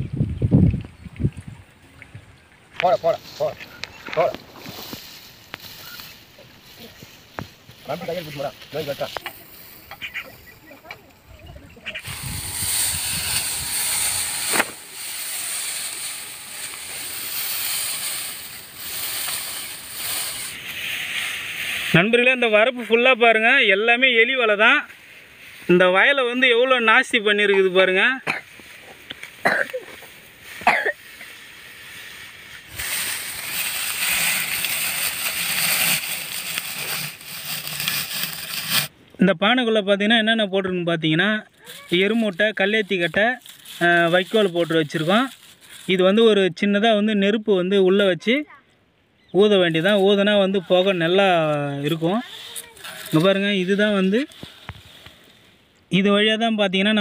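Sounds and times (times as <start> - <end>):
rice stalks rustling: 2.8 - 11.2, 11.8 - 38.9, 41.6 - 46.2, 49.7 - 55.6.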